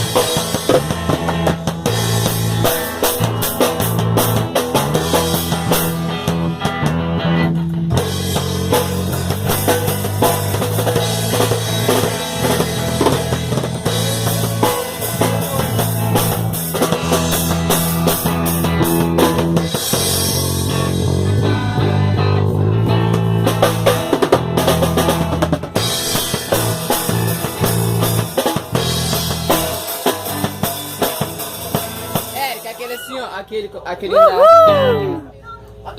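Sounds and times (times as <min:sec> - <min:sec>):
held bass line: 0:00.0 - 0:29.7, 0:34.1 - 0:35.4
live band music: 0:00.0 - 0:33.2
drum kit beat: 0:00.0 - 0:33.3.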